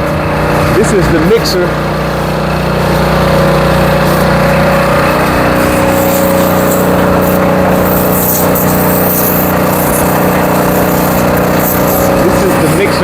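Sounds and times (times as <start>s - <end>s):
concrete mixer drone: 0.0s - 13.0s.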